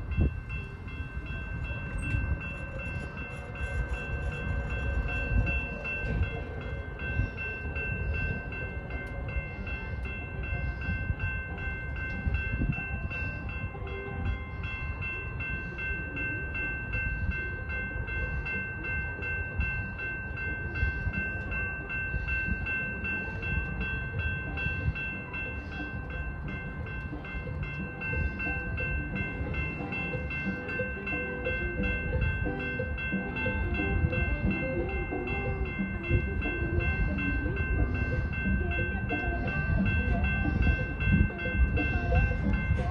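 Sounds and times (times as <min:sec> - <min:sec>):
freight train low rumble: 0:00.0 - 0:42.9.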